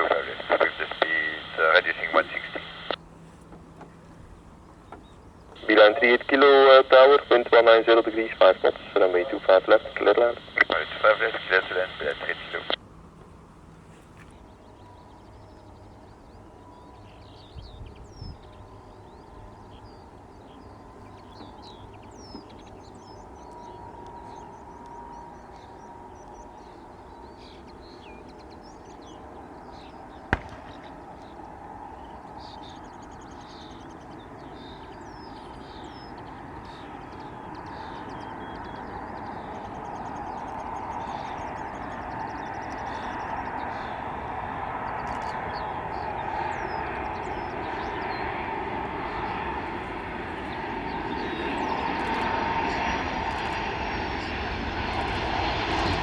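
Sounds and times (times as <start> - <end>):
jet airliner approaching: 0.0 - 56.0
small birds chirping: 0.0 - 56.0.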